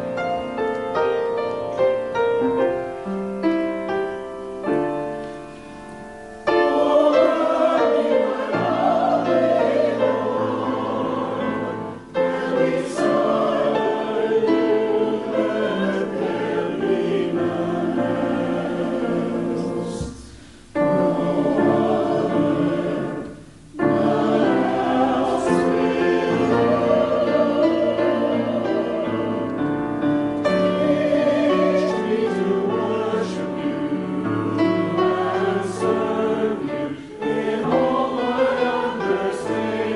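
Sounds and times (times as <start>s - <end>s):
choir singing: 0.0s - 39.9s
piano accompaniment: 0.0s - 39.9s.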